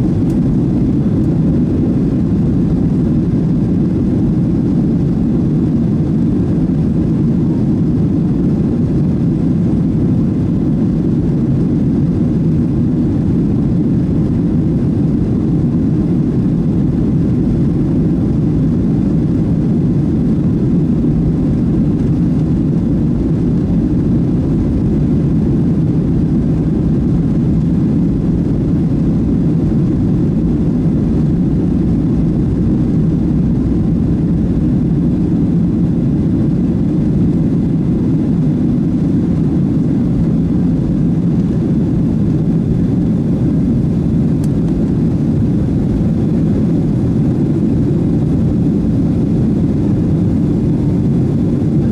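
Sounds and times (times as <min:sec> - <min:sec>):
airliner cabin roar: 0:00.0 - 0:51.9.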